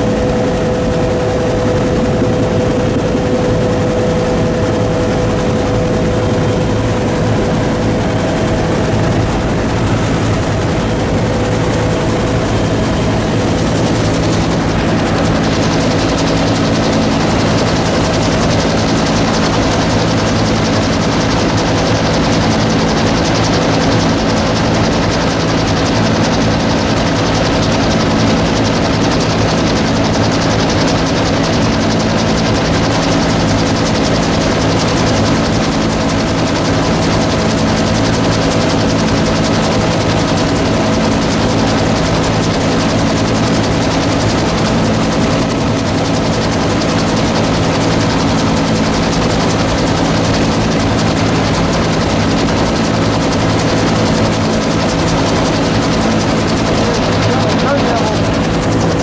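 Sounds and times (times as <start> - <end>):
helicopter turbine and rotor noise: 0.0 - 59.0.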